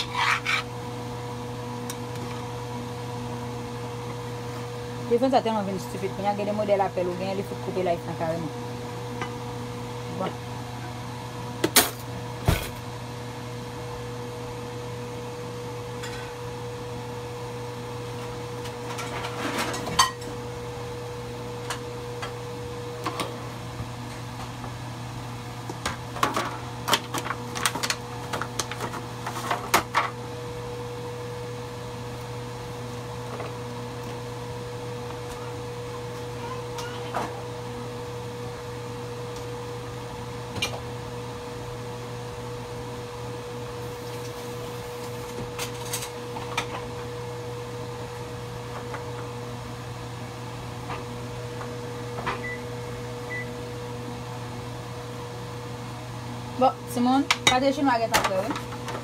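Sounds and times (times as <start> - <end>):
appliance hum: 0.0 - 59.0.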